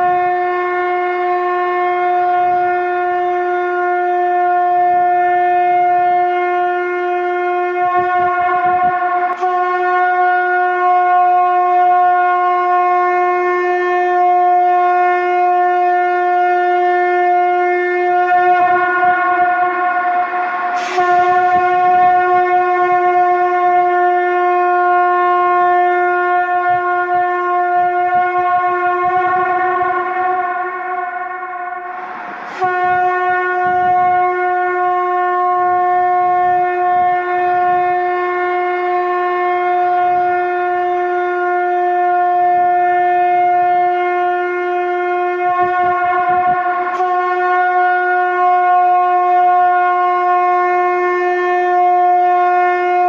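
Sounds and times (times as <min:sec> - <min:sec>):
conch shell blown: 0:00.0 - 0:53.0.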